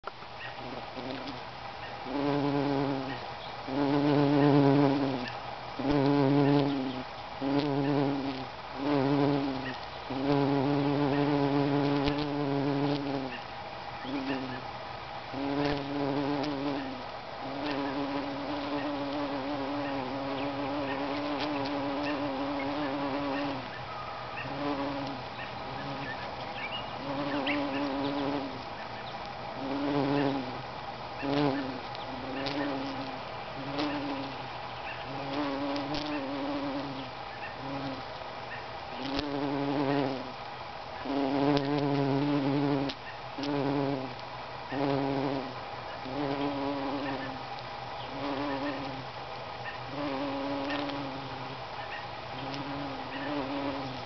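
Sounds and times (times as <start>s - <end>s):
bumblebee buzzing: 0.4s - 54.0s.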